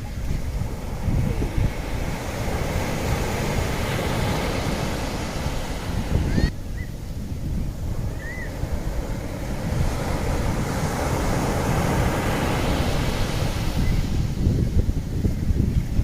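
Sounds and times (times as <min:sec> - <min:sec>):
sea waves washing onto shore: 0:00.0 - 0:16.0
wind rumble on microphone: 0:00.0 - 0:16.0.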